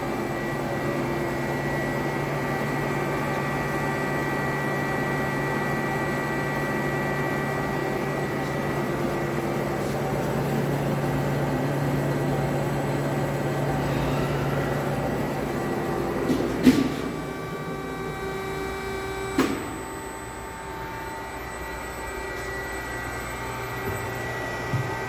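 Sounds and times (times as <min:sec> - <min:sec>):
machine mechanical hum: 0:00.0 - 0:25.0.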